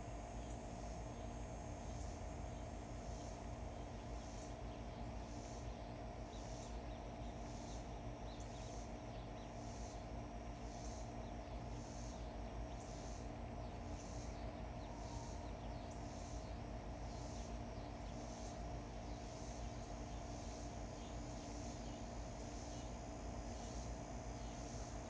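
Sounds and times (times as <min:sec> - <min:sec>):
faint low hum: 0:00.0 - 0:25.0
insects high-pitched drone: 0:00.0 - 0:25.0
pulsing insect call: 0:00.1 - 0:25.0.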